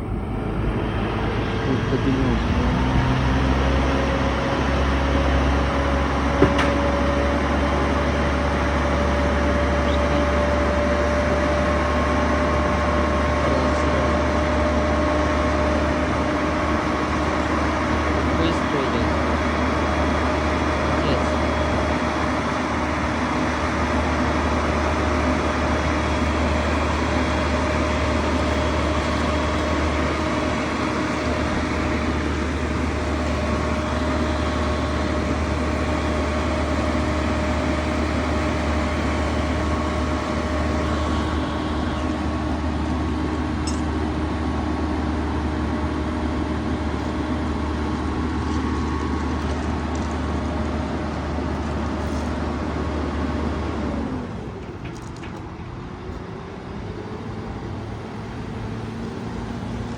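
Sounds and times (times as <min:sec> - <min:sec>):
crane engine drone: 0:00.0 - 0:59.9
engine whine: 0:00.0 - 0:59.9.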